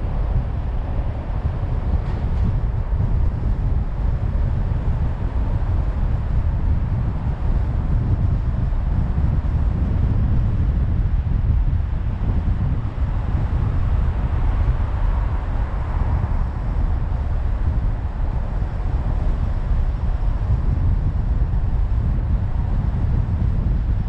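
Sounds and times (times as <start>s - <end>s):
car driving road and wind noise: 0.0s - 24.0s.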